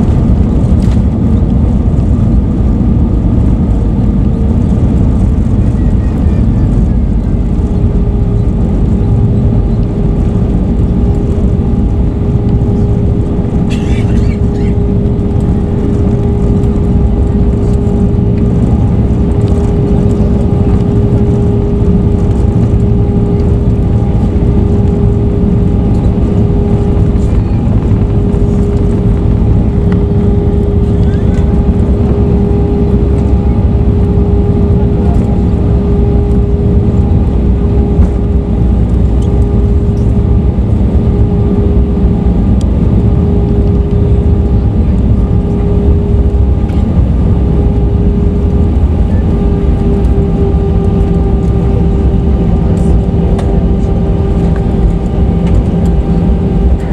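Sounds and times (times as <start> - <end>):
engines and wheels rumbling: 0.0 - 56.9
steady cabin hum: 0.0 - 56.9.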